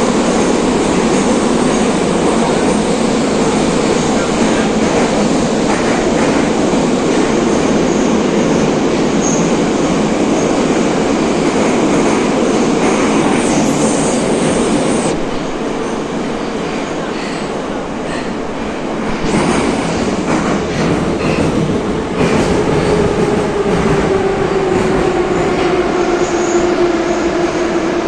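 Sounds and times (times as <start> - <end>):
wheels rumbling on rail: 0.0 - 28.0.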